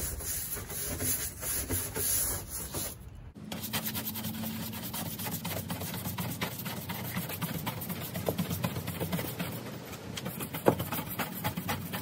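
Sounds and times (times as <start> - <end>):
hand rubbing painted panel: 0.0 - 12.0.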